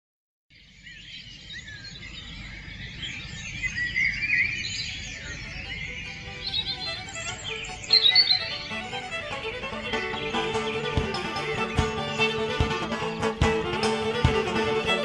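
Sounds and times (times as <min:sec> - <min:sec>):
small birds singing and chirping: 0:00.5 - 0:15.0.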